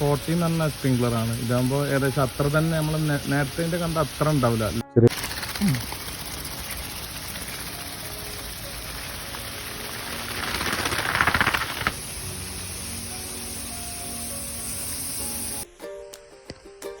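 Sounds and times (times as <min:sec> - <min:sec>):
rotating sprinkler spraying water: 0:00.0 - 0:15.7.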